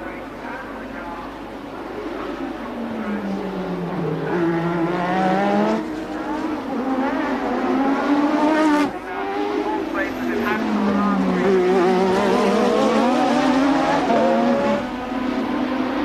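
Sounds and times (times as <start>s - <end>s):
racing car engine accelerating: 1.9s - 16.0s.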